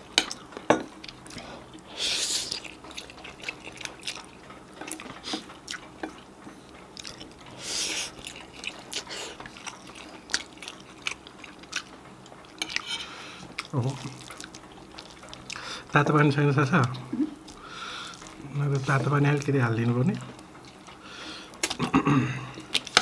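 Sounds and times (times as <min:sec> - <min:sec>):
wet chewing: 0:00.2 - 0:23.0.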